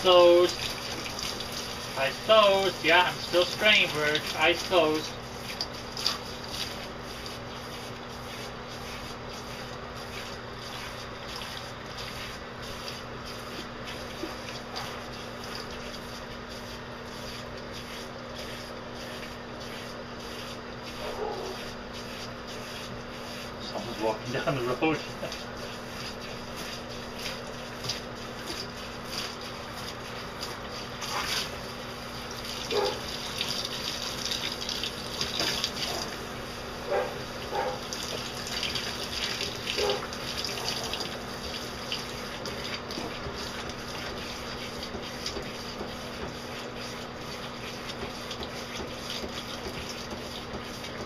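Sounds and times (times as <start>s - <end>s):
shower head spraying water: 0.0s - 51.0s.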